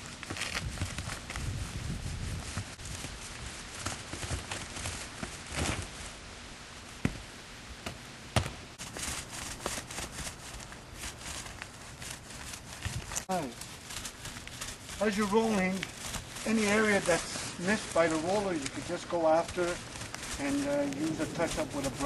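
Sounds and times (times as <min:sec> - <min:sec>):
paint roller rolling: 0:00.0 - 0:06.1, 0:08.8 - 0:22.0.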